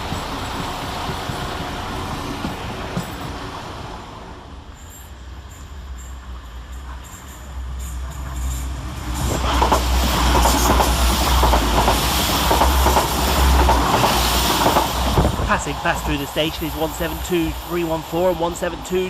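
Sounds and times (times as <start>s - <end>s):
train wheels clattering: 0.0s - 3.6s, 4.8s - 19.0s
diesel train passing: 0.0s - 19.0s.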